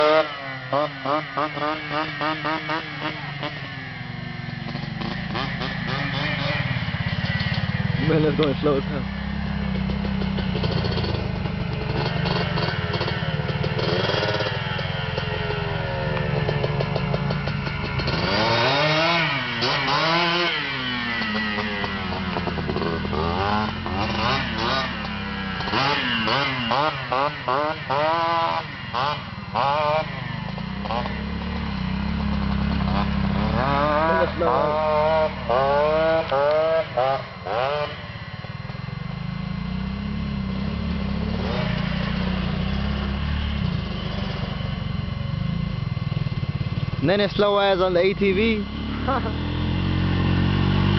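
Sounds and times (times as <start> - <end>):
small motorcycle engine revving: 0.0 - 50.9.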